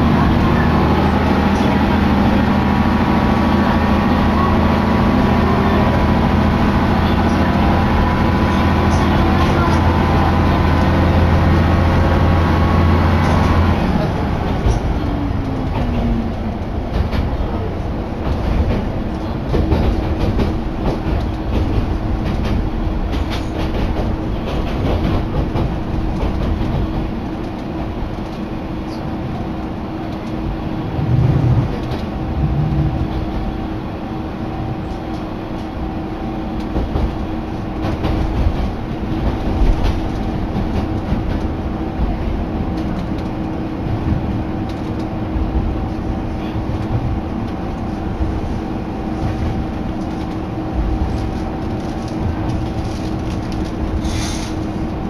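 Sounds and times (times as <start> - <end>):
diesel engine drone: 0.0 - 55.0
train running noise: 0.0 - 55.0.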